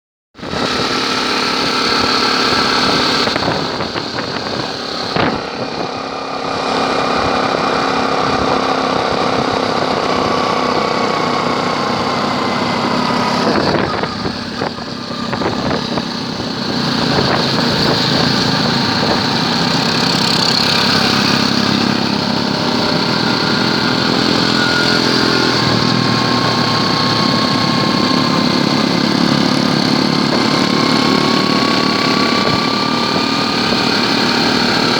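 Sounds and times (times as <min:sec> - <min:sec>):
motorcycle engine running: 0:00.4 - 0:34.9.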